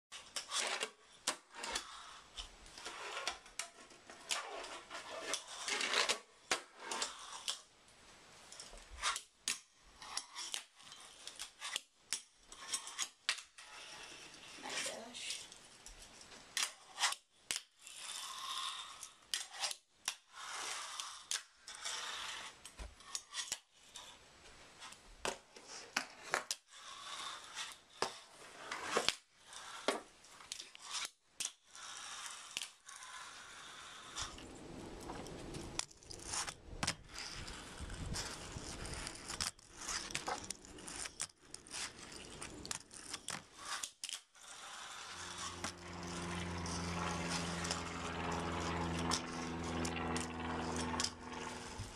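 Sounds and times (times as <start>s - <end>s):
small wheels rolling and scraping: 0.1s - 7.8s, 8.4s - 24.2s, 24.8s - 51.9s.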